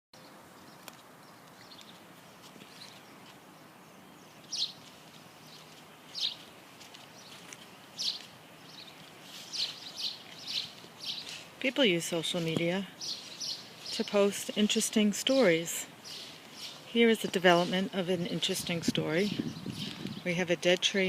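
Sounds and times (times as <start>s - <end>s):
birds chirping: 0.2s - 21.0s
faint background hiss: 0.2s - 21.0s.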